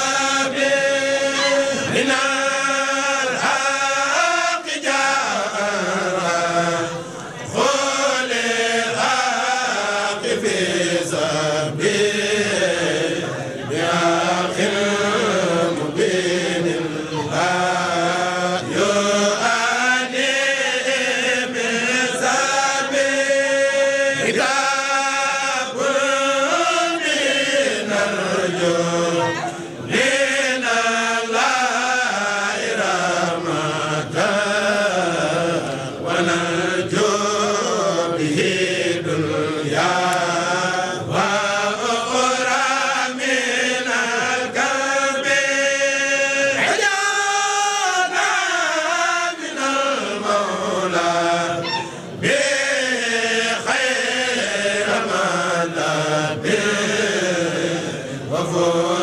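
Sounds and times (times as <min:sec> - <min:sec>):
voices chanting: 0:00.0 - 0:59.0.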